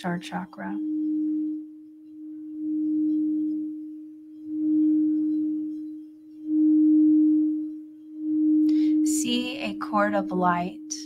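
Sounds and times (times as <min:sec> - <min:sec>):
singing bowl ringing tone: 0:00.0 - 0:11.0.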